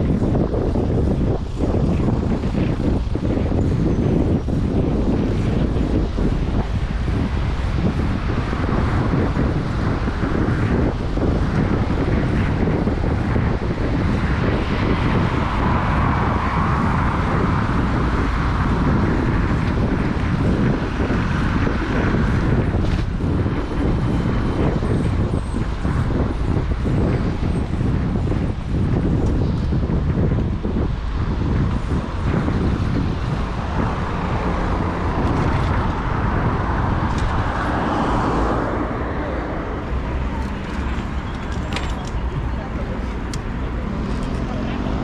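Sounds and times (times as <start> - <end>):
road and traffic noise: 0.0 - 45.0
wind buffeting microphone: 0.0 - 45.0.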